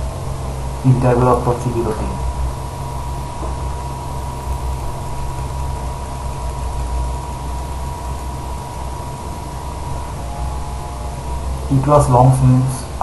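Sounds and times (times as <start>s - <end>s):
constant thin tone: 0.0s - 13.0s
low engine-like hum: 0.0s - 13.0s.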